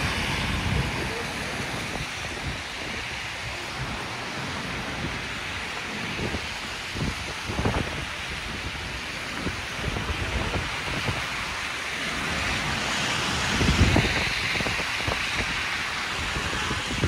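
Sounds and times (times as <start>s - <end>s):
tyres hissing on snowy road: 0.0s - 17.0s
wind buffeting microphone: 0.0s - 17.0s.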